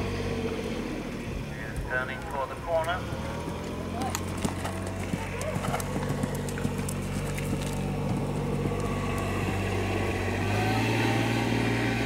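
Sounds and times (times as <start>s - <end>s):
vehicle engine running: 0.0s - 12.0s
horse hoofbeats cantering: 1.6s - 11.5s.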